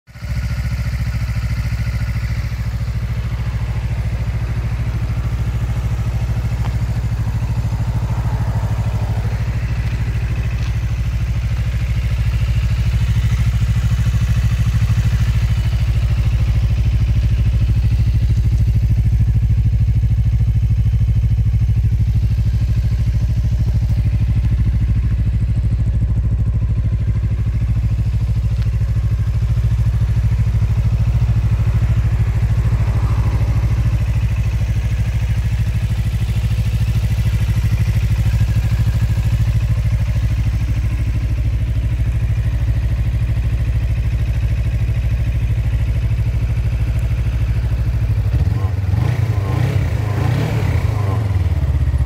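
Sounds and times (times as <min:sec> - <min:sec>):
motorcycle engine idling: 0:00.1 - 0:52.0.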